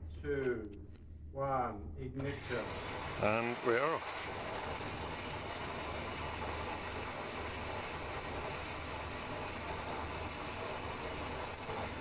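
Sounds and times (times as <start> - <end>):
vacuum cleaner running: 2.2 - 12.0.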